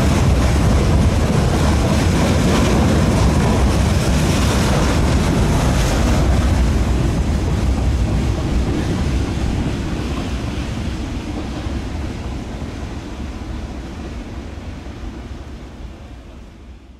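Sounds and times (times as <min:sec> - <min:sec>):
freight train rumbling past: 0:00.0 - 0:16.9.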